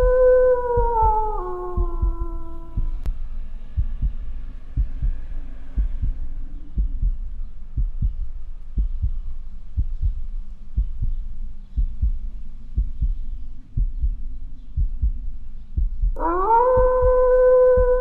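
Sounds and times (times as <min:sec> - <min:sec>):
heartbeat thumps: 0:00.0 - 0:18.0.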